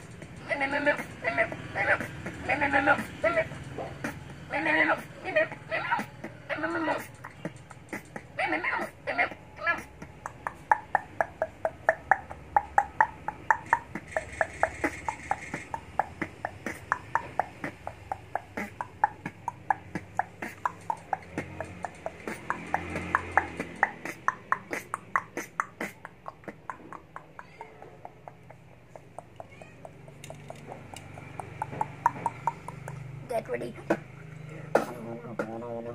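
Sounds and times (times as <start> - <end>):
beatbox mouth clicks: 0.0 - 0.4, 2.0 - 5.2, 6.0 - 27.5, 28.1 - 33.2.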